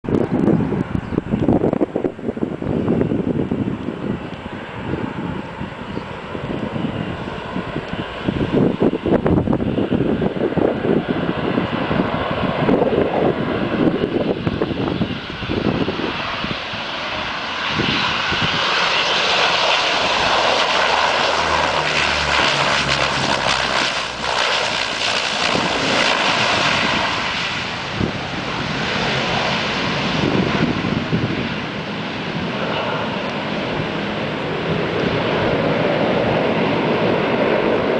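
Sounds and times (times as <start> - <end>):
turboprop plane landing: 0.0 - 37.9.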